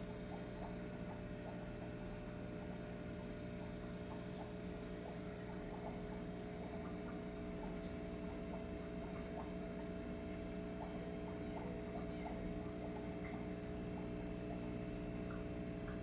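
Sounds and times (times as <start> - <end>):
air bubble ticks: 0.0 - 16.0
aquarium equipment hum: 0.0 - 16.0.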